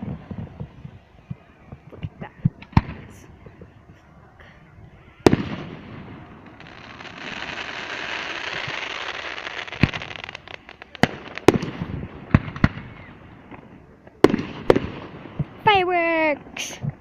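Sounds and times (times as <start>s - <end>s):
fireworks bangs: 0.0s - 3.8s, 5.1s - 17.0s
fireworks crackling: 0.0s - 17.0s.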